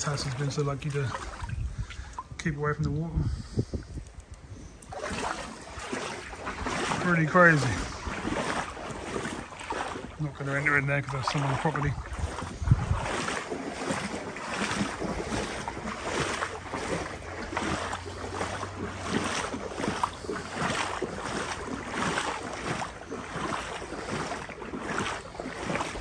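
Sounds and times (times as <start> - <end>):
wading through water: 0.0 - 26.0.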